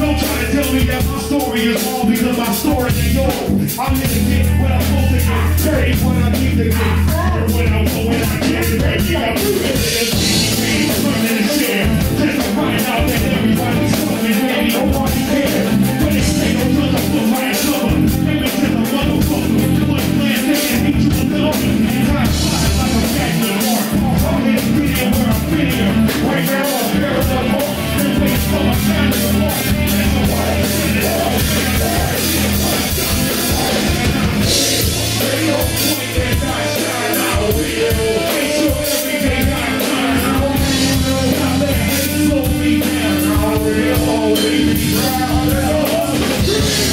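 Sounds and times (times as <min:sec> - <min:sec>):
drums: 0:00.0 - 0:46.9
electric guitar: 0:00.0 - 0:46.9
live rock band: 0:00.0 - 0:46.9.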